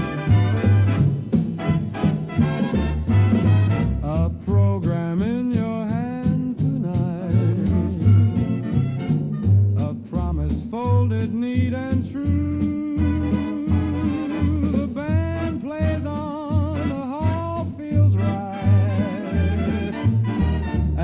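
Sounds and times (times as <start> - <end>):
swing dance band music: 0.0 - 21.0.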